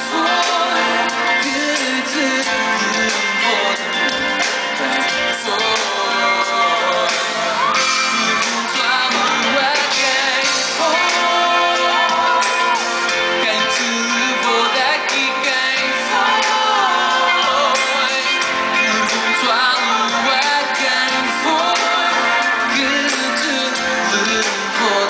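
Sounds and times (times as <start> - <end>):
live pop band music: 0.0 - 25.0
man singing into a microphone: 0.0 - 25.0.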